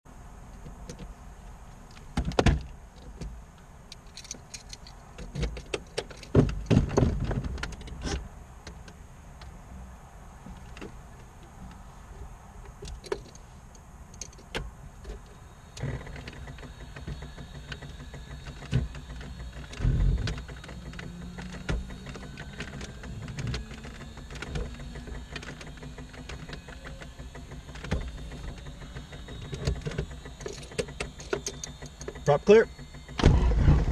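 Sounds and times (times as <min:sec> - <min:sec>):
electrical hum with rising whine: 0:06.5 - 0:33.9.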